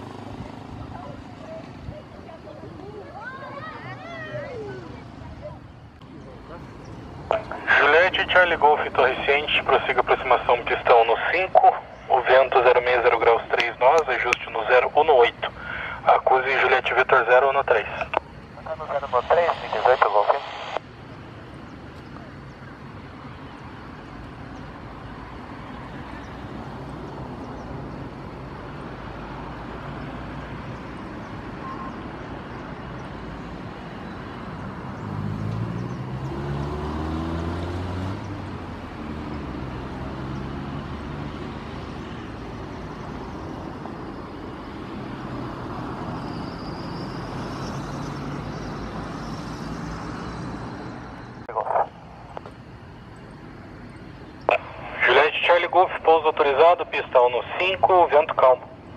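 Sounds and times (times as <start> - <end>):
vehicle engine drone: 0.0 - 58.9.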